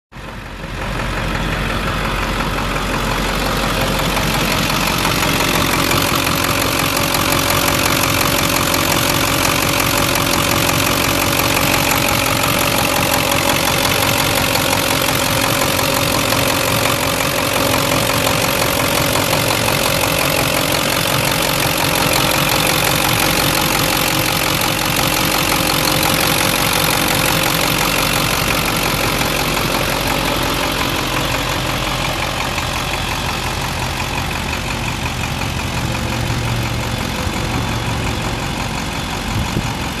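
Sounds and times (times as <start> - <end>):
diesel engine idling: 0.1 - 40.0.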